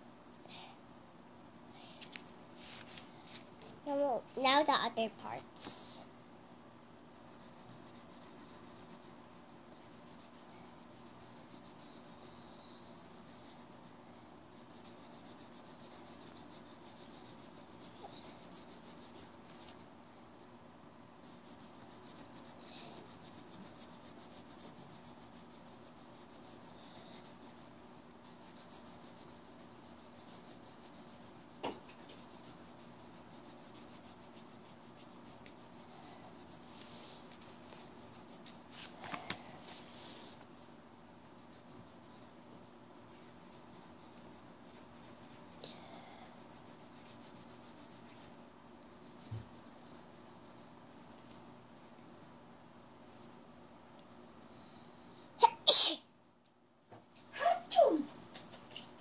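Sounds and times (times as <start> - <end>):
colored pencil scratching on paper: 2.6 - 6.1, 7.1 - 19.9, 21.2 - 52.3.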